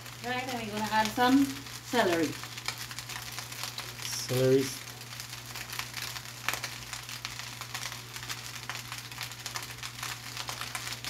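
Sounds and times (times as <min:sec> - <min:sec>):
rice sizzling in a wok: 0:00.0 - 0:11.0.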